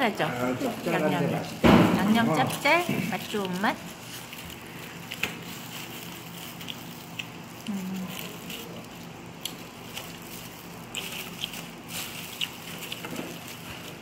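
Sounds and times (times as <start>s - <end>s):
fried chicken crackling: 0.0s - 14.0s.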